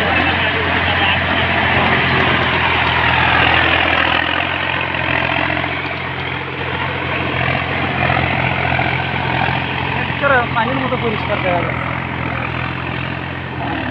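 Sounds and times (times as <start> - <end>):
tractor engine running: 0.0 - 13.9.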